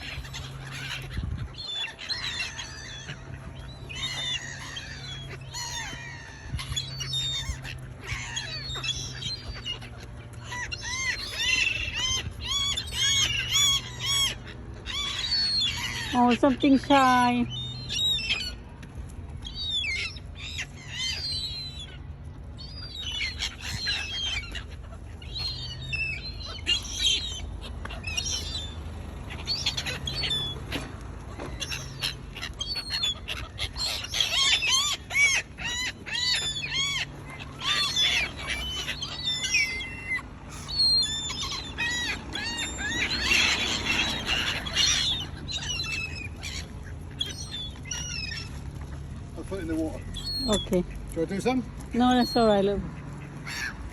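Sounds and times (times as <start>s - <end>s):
gulls calling: 0.0s - 53.9s.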